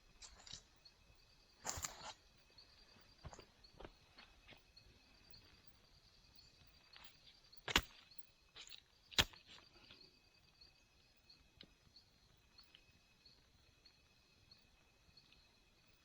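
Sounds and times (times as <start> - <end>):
insect chirring: 0.0 - 16.0.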